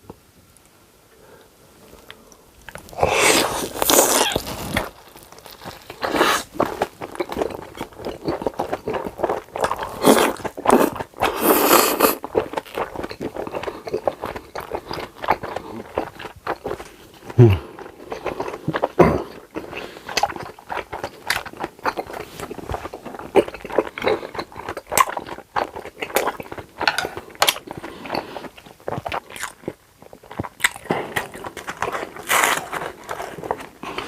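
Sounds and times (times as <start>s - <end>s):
crunchy food chewing: 1.8s - 34.0s.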